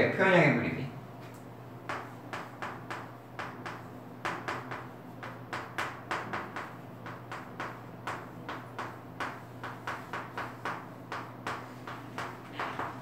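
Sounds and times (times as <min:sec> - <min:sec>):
chalk writing on chalkboard: 0:01.8 - 0:13.0.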